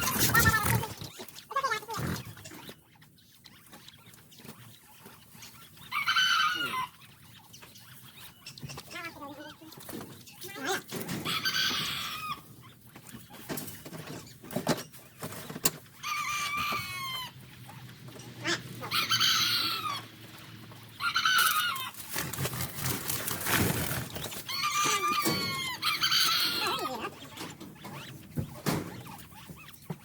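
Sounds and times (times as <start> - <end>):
chickens calling loudly: 0.0 - 30.0.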